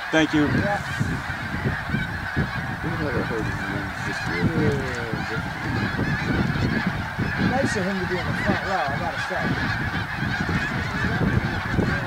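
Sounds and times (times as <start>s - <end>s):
flock of geese calling: 0.0s - 12.0s.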